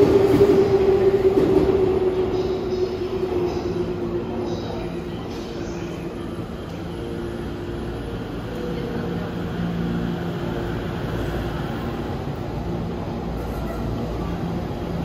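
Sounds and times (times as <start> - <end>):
electric train equipment hum: 0.0 - 15.0.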